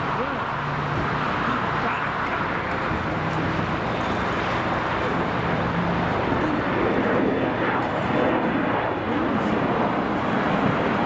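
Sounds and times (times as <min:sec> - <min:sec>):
engine noise: 0:00.0 - 0:11.0
traffic noise: 0:00.0 - 0:11.0.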